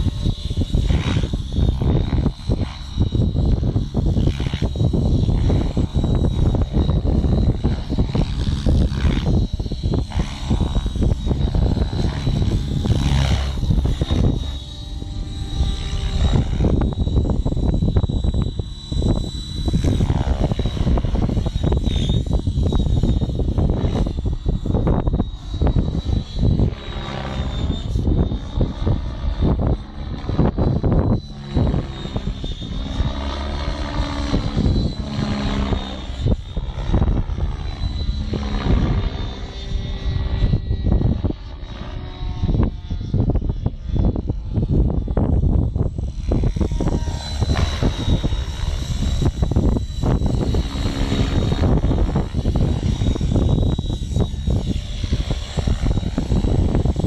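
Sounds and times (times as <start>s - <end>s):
helicopter rotor blades chopping: 0.0s - 57.0s
high motor whine: 0.0s - 57.0s.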